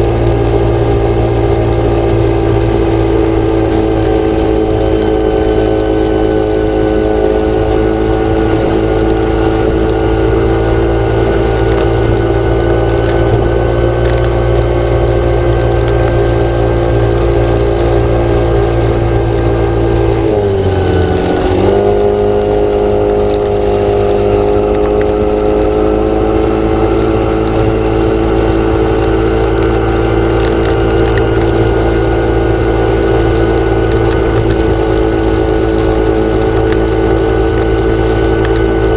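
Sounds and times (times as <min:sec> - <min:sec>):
small motor running steadily: 0:00.0 - 0:38.9.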